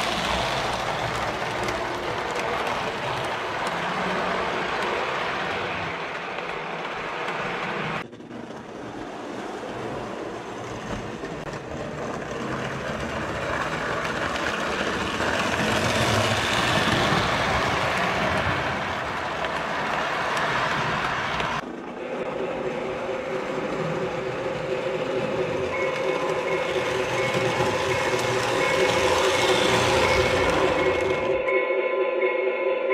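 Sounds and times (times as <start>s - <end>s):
toy train wheels rolling on rails: 0.0s - 31.4s.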